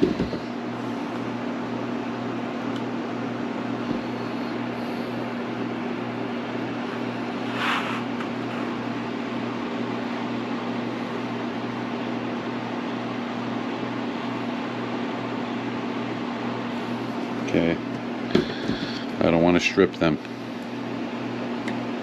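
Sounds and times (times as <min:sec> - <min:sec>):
appliance mechanical hum: 0:00.0 - 0:22.0.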